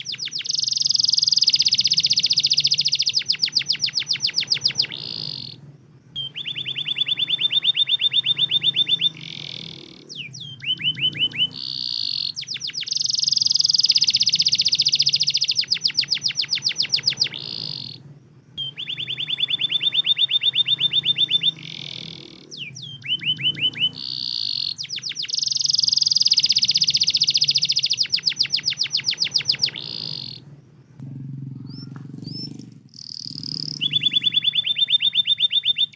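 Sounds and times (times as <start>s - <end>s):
canary song trills: 0.0s - 35.9s.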